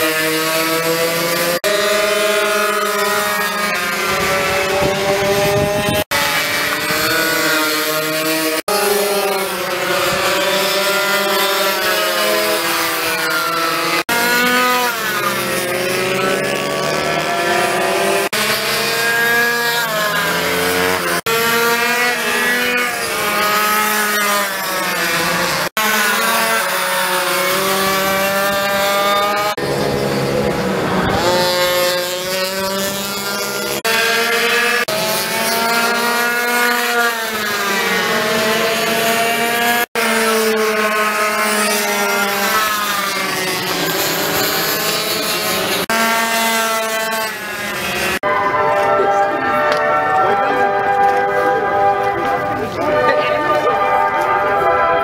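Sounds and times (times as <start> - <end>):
minibike engines revving high: 0.0 - 55.0.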